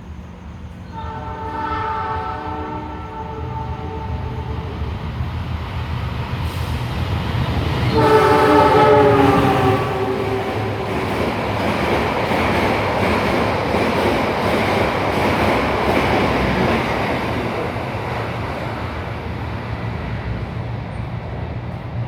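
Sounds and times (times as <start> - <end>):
train wheels rushing on rail: 0.0 - 22.0.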